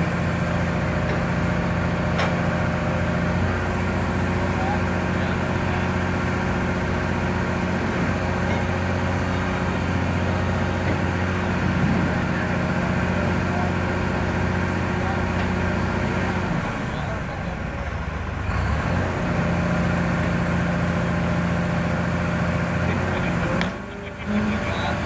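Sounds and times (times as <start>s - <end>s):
excavator diesel engine droning: 0.0s - 25.0s.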